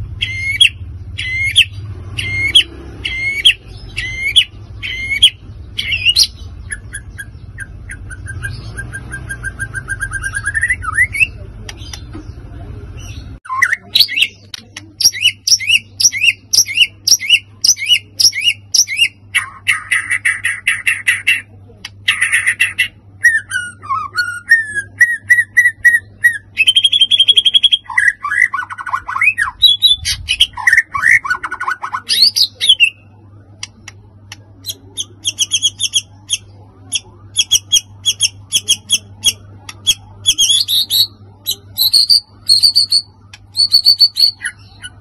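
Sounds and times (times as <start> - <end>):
bird singing: 0.0 - 45.0.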